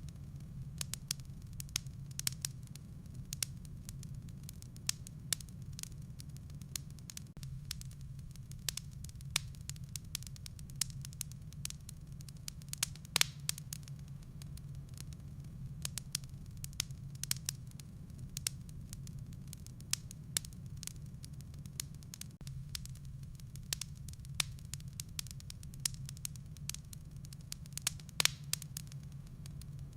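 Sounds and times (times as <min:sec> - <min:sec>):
fire popping: 0:00.0 - 0:29.9
low rumble of fire: 0:00.0 - 0:29.9
wood fire crackling: 0:00.0 - 0:29.9.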